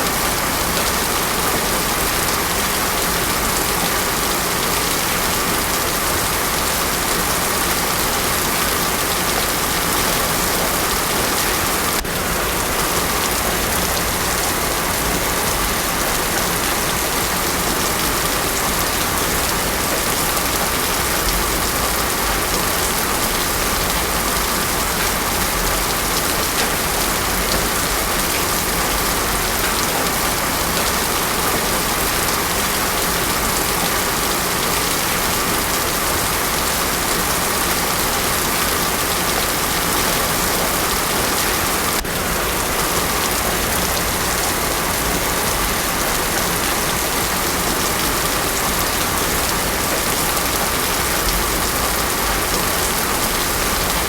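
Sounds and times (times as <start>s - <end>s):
heavy rain on a road: 0.0s - 54.0s.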